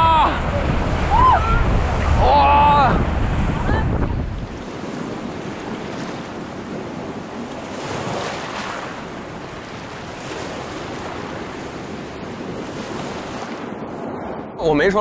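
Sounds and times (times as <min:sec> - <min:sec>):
sea waves rushing: 0:00.0 - 0:15.0
wind buffeting microphone: 0:00.0 - 0:15.0.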